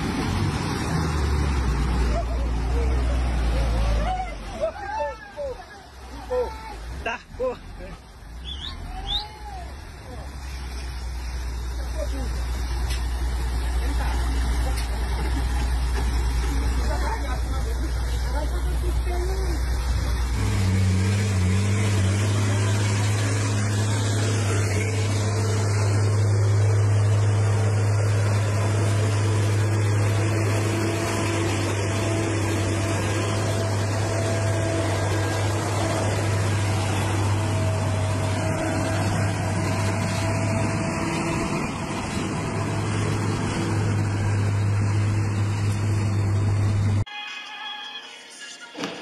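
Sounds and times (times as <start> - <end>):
diesel truck engine running: 0.0 - 47.1.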